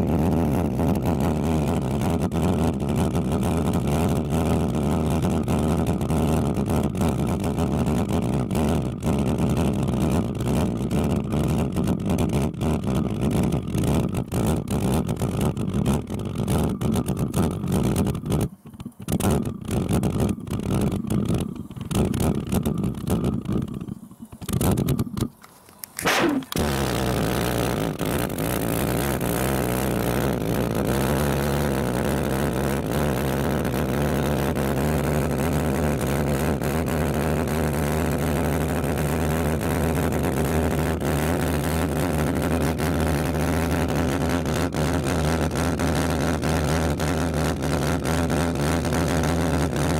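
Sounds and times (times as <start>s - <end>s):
pulse jet engine running: 0.0s - 49.9s.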